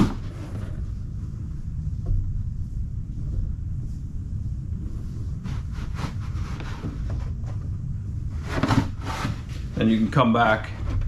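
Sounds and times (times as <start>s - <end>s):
torch flame rumbling: 0.0s - 11.0s.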